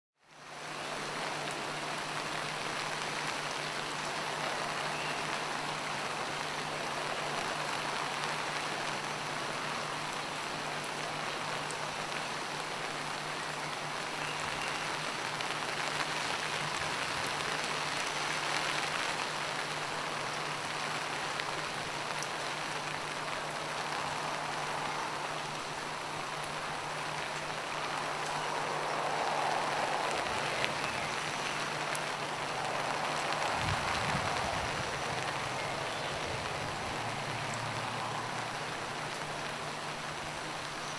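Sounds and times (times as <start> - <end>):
steady rain falling: 0.2 - 40.9.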